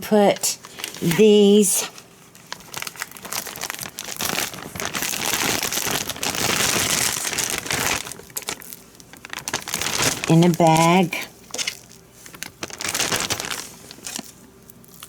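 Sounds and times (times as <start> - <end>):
plastic bag crinkling: 0.6 - 15.0.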